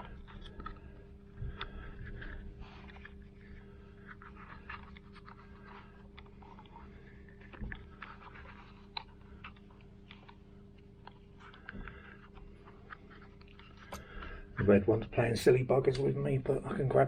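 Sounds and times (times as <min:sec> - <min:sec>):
steady low hum: 0:00.0 - 0:17.0
wires crackling and rustling: 0:00.0 - 0:17.0.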